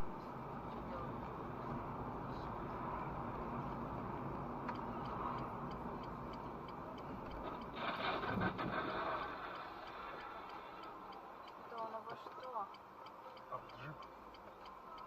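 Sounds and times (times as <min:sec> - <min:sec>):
car road and engine noise: 0:00.0 - 0:15.0
faint ticking: 0:01.2 - 0:15.0.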